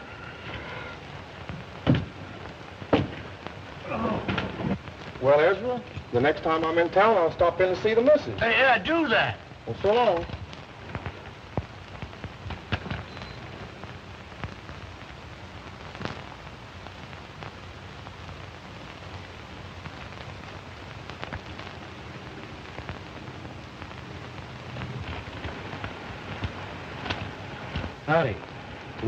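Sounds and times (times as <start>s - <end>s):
crackles and pops: 0.0s - 29.0s
film soundtrack hiss: 0.0s - 29.0s.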